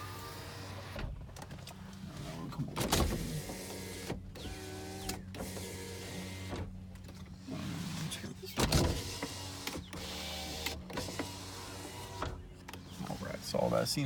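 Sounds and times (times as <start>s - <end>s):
power window motor running: 0.0s - 14.0s.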